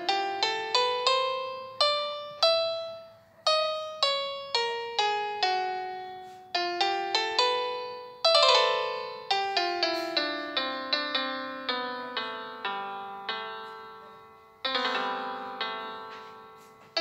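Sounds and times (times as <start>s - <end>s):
solo piano notes: 0.0s - 17.0s.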